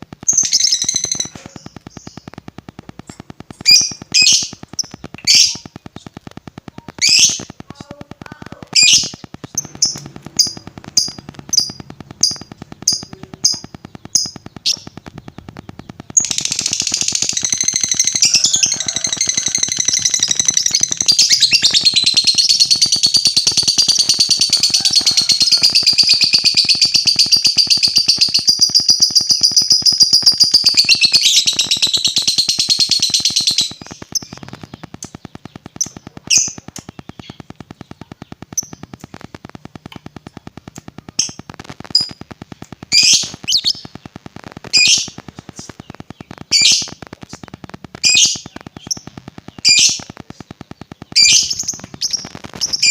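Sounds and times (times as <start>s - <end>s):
bird chirps: 0.0s - 52.9s
faint fast ticking: 0.0s - 52.9s
lovebird chattering trill: 3.4s - 52.9s.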